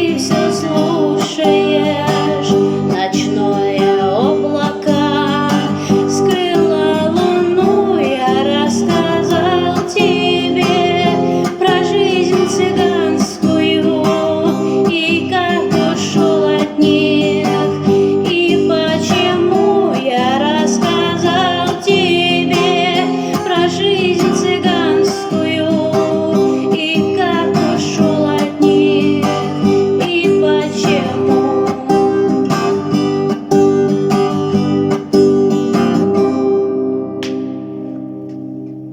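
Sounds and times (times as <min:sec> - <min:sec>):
woman singing: 0:00.0 - 0:36.2
acoustic guitar strumming: 0:00.0 - 0:38.9.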